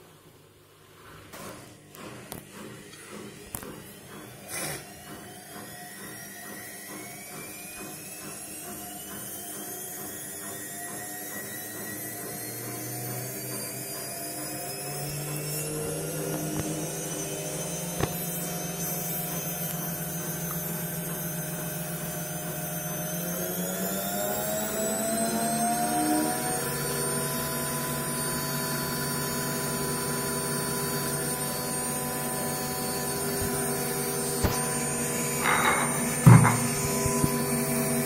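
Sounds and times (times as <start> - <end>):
washing machine motor whining: 1.0 - 38.0.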